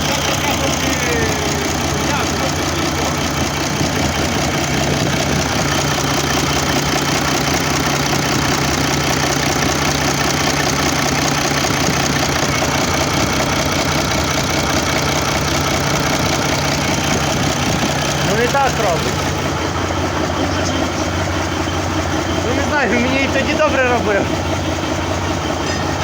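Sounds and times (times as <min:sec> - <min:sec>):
diesel engine idling with knock: 0:00.0 - 0:26.0.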